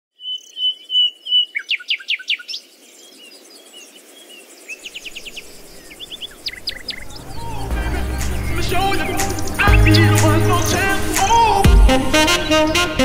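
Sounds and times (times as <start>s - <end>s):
birds singing: 0.1s - 13.0s
birds twittering: 0.1s - 13.0s
sharp sweeping bird chirps: 0.2s - 11.6s.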